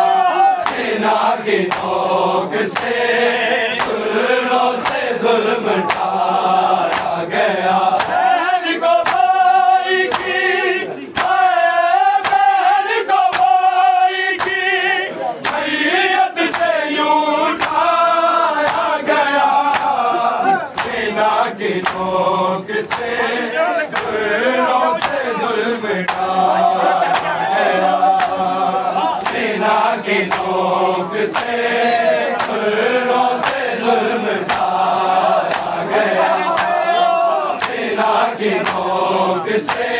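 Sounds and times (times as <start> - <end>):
men chanting a lament: 0.0 - 39.9
rhythmic chest-beating slaps: 0.0 - 39.9.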